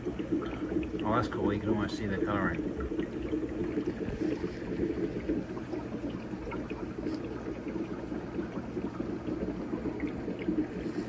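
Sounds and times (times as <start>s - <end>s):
aquarium water bubbling: 0.0s - 11.0s
small bubble ticks: 0.0s - 11.0s.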